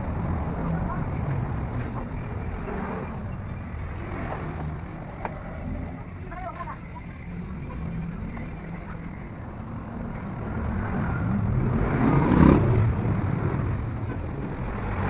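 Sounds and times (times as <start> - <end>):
motor vehicle rumbling past: 0.0 - 15.0.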